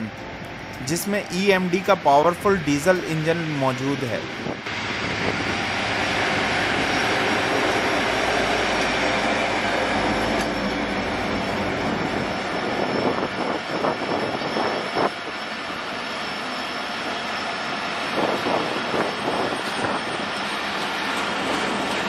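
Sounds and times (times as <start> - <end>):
diesel locomotive passing: 0.0 - 22.0
passenger coaches rolling by: 0.0 - 22.0.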